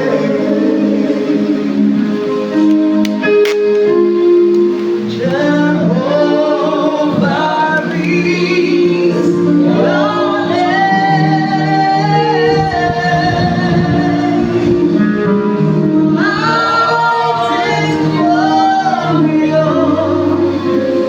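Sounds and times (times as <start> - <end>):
gospel singing: 0.0 - 21.0
held instrumental chords: 0.0 - 21.0.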